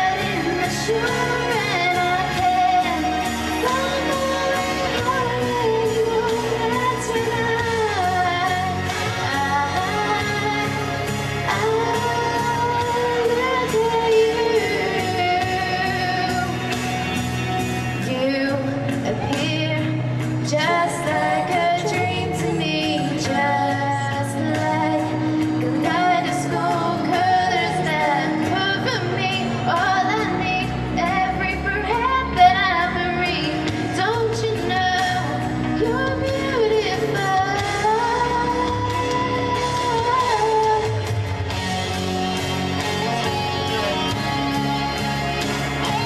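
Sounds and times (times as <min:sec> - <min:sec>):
instrumental accompaniment: 0:00.0 - 0:46.0
woman singing pop ballad: 0:00.0 - 0:46.0.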